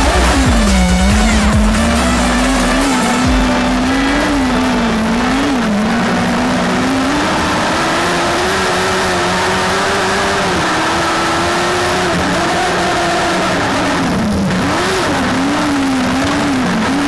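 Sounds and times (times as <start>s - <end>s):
race car engine running hard: 0.0s - 17.0s
steady noisy rush: 0.0s - 17.0s.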